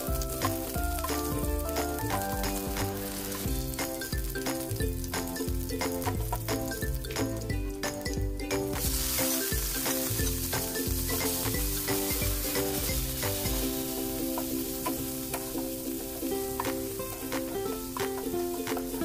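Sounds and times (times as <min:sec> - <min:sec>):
shrimp sizzling in hot oil: 0:00.0 - 0:19.0.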